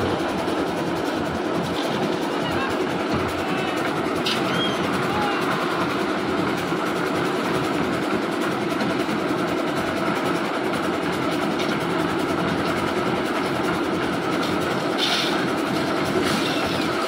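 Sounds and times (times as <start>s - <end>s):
concrete mixer running: 0.0s - 17.0s.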